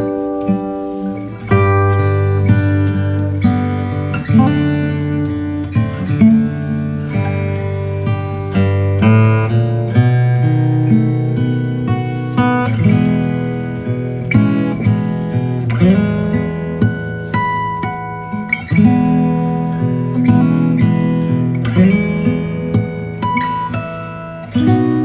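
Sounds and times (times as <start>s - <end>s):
acoustic guitar music: 0.0s - 25.0s.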